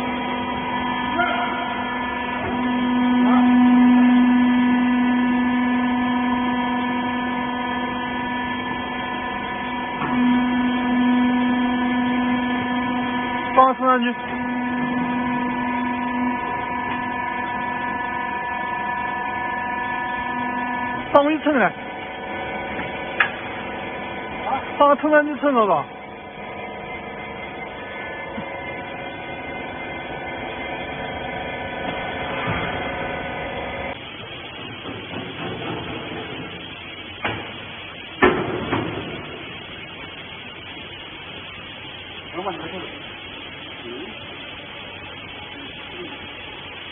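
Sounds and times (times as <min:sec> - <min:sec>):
hydraulic pump motor humming: 0:00.0 - 0:46.9
steady tones: 0:00.0 - 0:46.9.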